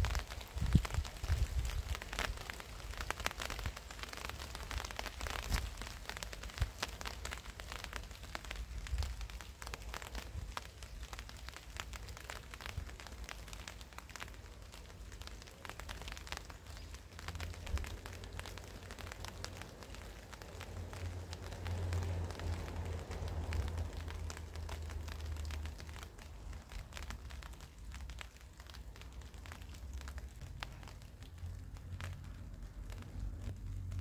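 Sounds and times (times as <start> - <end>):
rain drops ticking on surfaces: 0.0 - 34.0
steady rain hiss: 0.0 - 34.0.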